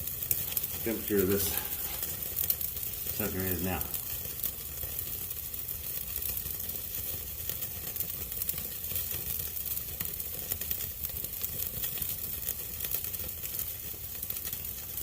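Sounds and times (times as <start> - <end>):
steaks sizzling on grill: 0.0 - 15.0.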